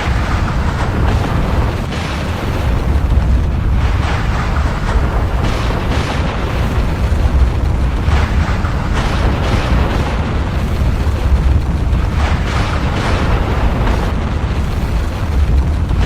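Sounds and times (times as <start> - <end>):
volcano deep rumble: 0.0 - 16.0.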